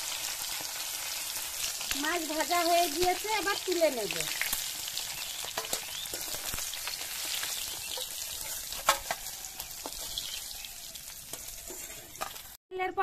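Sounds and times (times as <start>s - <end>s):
fish sizzling in oil: 0.0s - 12.6s.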